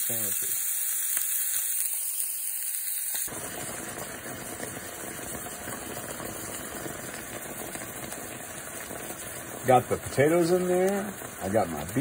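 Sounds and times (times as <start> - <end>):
fat sizzling: 0.0 - 12.0
stock boiling and bubbling: 0.0 - 12.0.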